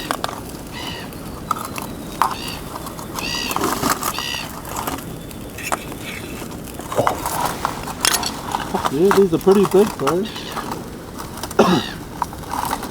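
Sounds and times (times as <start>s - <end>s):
steady background hiss: 0.0s - 12.8s
birds calling: 0.0s - 12.9s.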